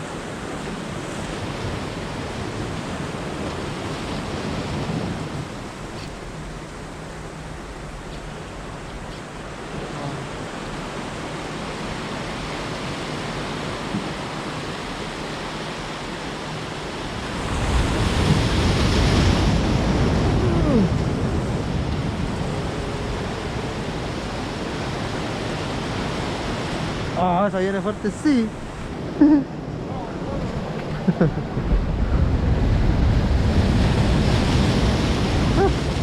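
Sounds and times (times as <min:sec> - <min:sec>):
ocean surf: 0:00.0 - 0:36.0
wave breaking: 0:00.0 - 0:36.0.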